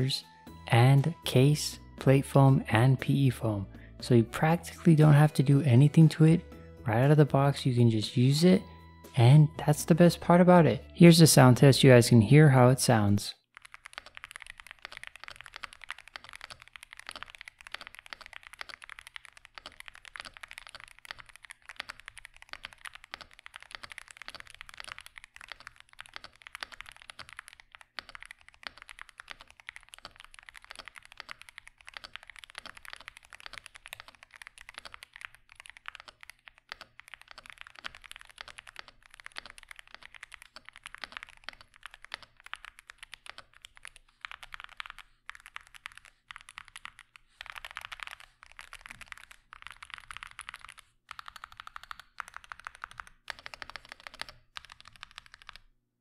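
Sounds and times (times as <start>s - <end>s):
keyboard typing: 0.0s - 55.7s.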